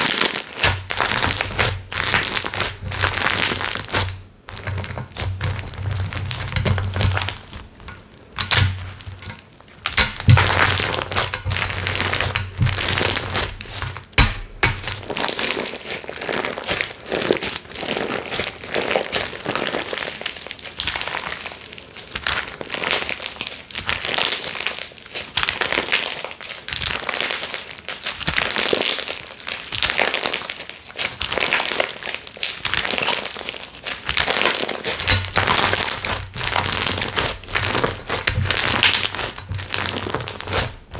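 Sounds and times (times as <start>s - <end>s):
slime squishing: 0.0s - 40.9s.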